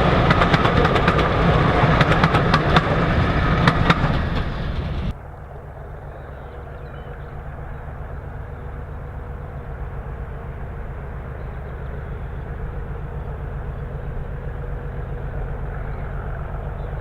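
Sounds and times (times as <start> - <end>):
diesel locomotive engine throbbing: 0.0 - 17.0.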